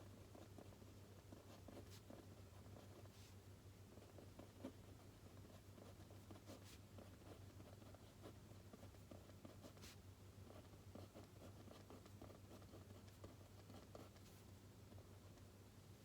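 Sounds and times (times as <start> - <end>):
pen scratching on paper: 0.1 - 3.3, 3.9 - 14.4.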